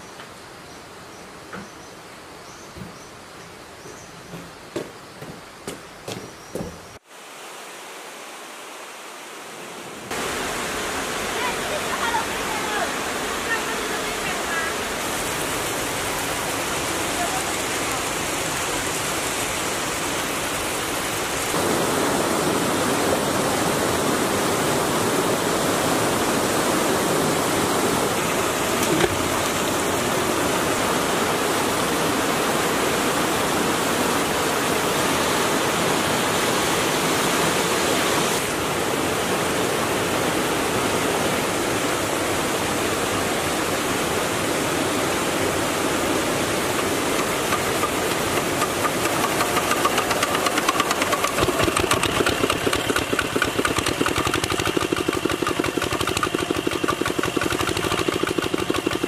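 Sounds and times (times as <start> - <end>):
stream rushing over rocks: 7.0 - 58.9.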